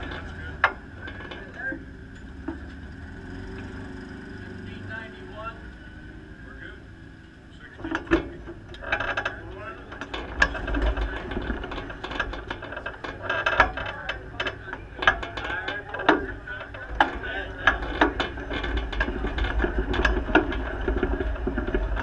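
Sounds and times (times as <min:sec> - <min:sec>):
car chassis clicks and rattles: 0:00.0 - 0:05.8, 0:07.1 - 0:22.0.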